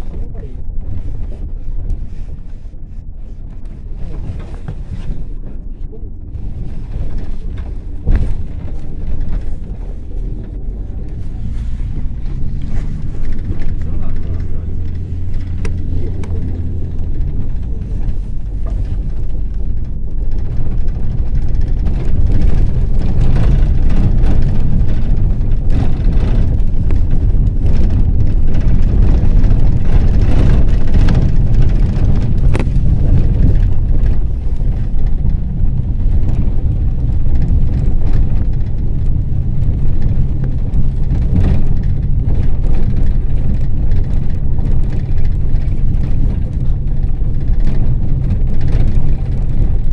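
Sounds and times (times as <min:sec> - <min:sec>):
engine and road rumble: 0:00.0 - 0:49.9
knocks and rattles: 0:00.0 - 0:49.9.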